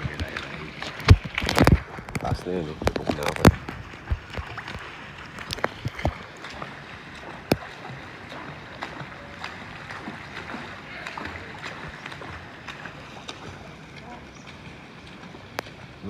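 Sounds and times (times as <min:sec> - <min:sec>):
water lapping and sloshing: 0:00.0 - 0:16.0.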